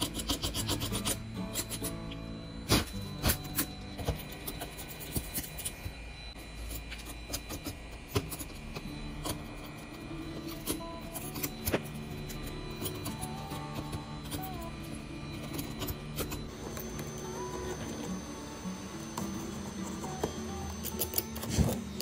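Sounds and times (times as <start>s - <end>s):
quiet background music: 0.0s - 22.0s.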